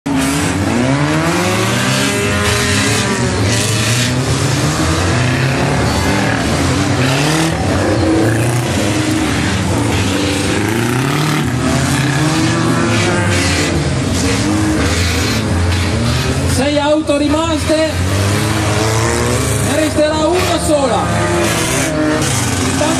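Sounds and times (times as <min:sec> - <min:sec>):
car engines revving: 0:00.0 - 0:22.9.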